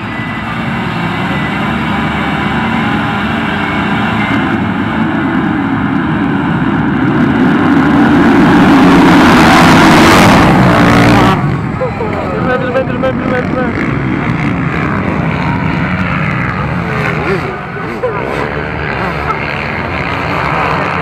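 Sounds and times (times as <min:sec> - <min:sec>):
motocross bikes accelerating: 0:00.0 - 0:21.0.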